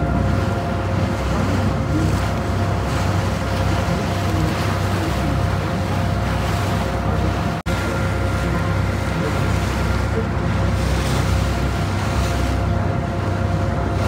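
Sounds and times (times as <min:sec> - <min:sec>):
boat engine humming: 0:00.0 - 0:14.0
wind and water rushing: 0:00.0 - 0:14.0.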